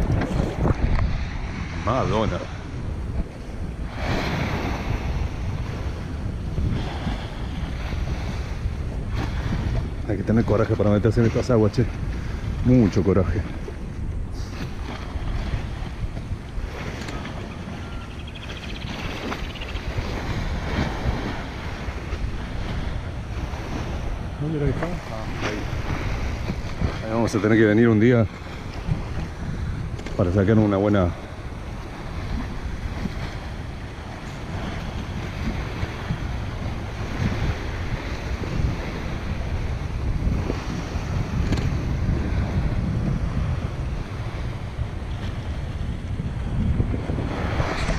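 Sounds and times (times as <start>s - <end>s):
small waves lapping at shore: 0.0s - 47.9s
wind buffeting microphone: 0.0s - 47.9s.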